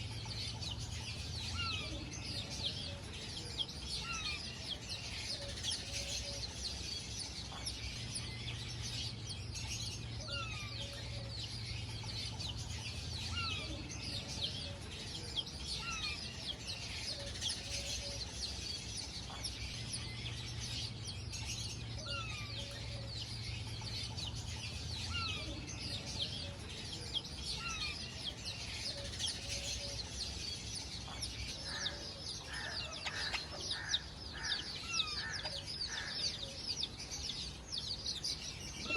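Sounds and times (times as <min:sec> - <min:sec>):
many birds chirping: 0:00.0 - 0:38.9.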